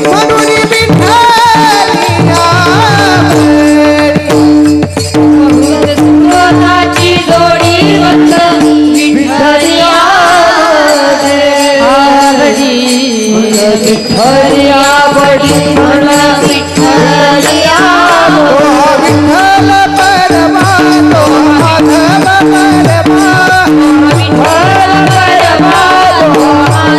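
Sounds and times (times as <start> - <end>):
hand drum: 0.0 - 10.2, 14.1 - 26.9
woman singing devotional melody: 0.0 - 26.9.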